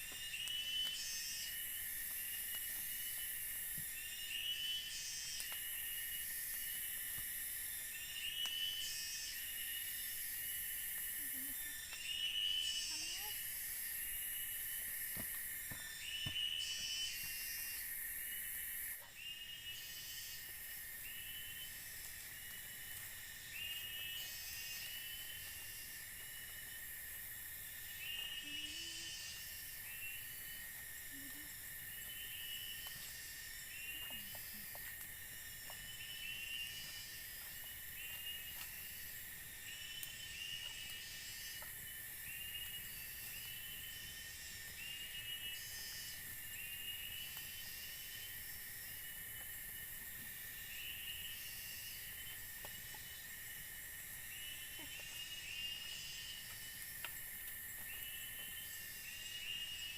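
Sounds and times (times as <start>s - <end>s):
insect chirping call: 0.0s - 59.9s
insects droning: 0.0s - 59.9s.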